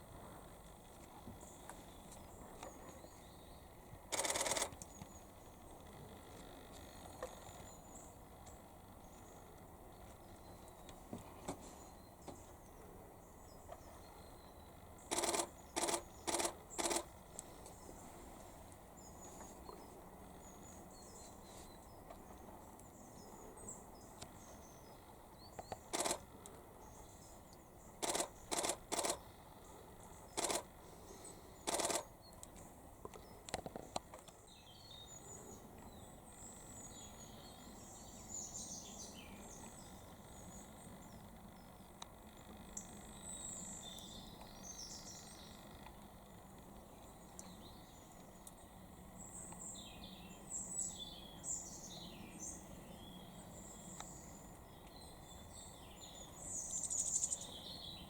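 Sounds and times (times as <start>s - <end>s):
small birds chirping: 0.4s - 58.0s.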